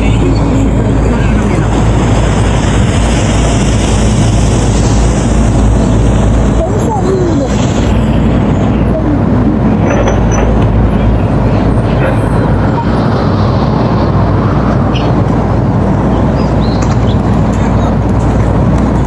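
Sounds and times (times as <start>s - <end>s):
excavator diesel engine rumbling: 0.0s - 19.0s.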